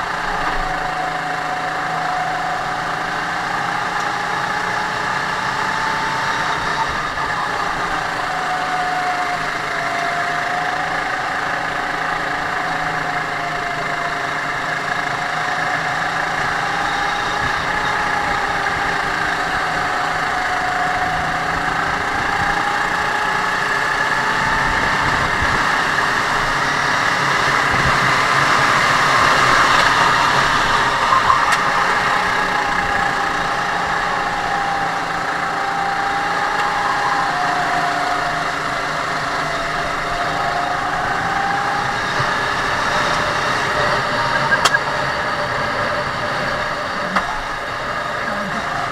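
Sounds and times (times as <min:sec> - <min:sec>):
racing kart engine: 0:00.0 - 0:48.9.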